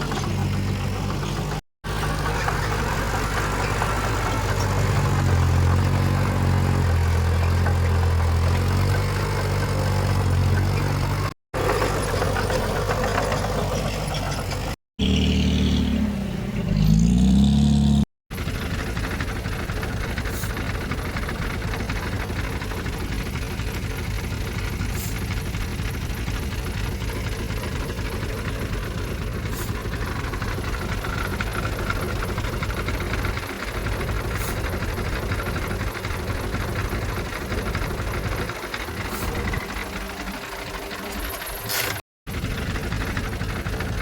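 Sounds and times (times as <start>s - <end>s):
heavy machinery diesel engine: 0.0s - 44.0s.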